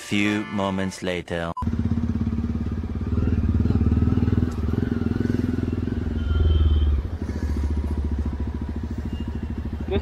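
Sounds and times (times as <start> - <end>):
motorcycle engine running: 1.6 - 10.0.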